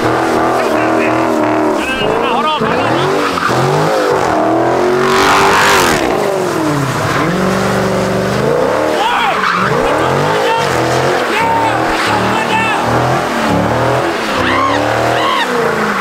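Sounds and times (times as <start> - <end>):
car engine revving: 0.0 - 16.0
tyres squealing on asphalt: 0.0 - 16.0.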